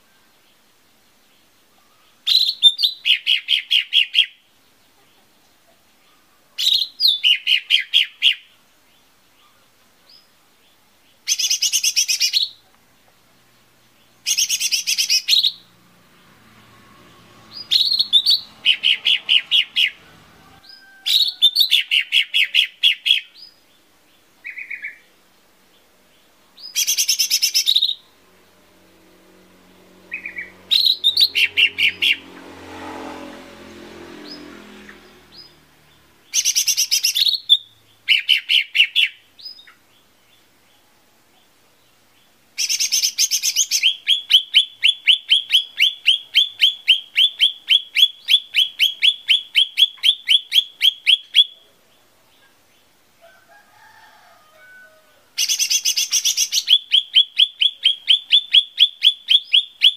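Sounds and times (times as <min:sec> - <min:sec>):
bird singing trills: 0:00.0 - 0:32.9, 0:33.8 - 0:53.0, 0:55.4 - 0:59.9.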